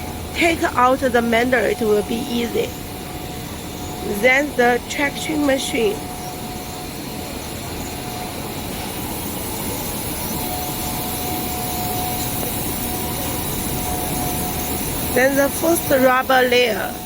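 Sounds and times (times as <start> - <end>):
faint machine whine: 0.0 - 17.0
production line machinery noise: 0.0 - 17.0.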